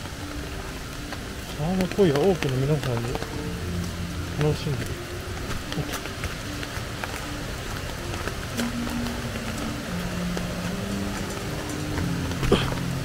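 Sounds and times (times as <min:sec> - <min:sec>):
river rushing over rapids: 0:00.0 - 0:13.0
soft background music: 0:00.0 - 0:13.0.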